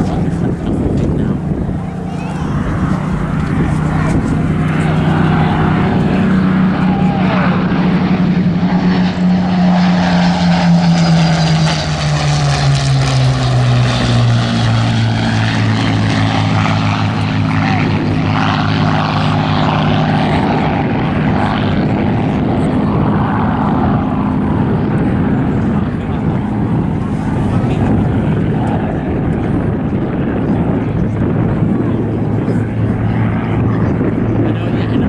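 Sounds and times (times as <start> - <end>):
propeller plane engines flying by: 0.0 - 35.0.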